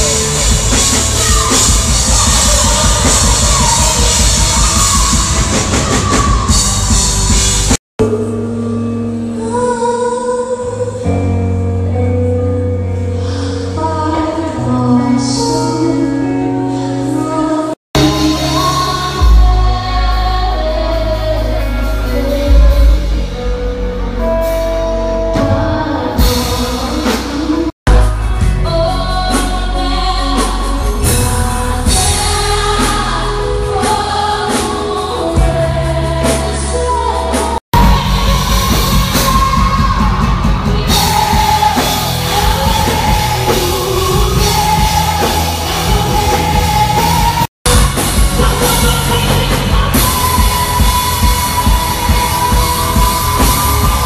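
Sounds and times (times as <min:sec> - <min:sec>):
woman singing: 0:00.0 - 0:07.1, 0:08.0 - 0:12.1, 0:13.2 - 0:23.4, 0:25.3 - 0:54.0
live band playing: 0:00.0 - 0:54.0.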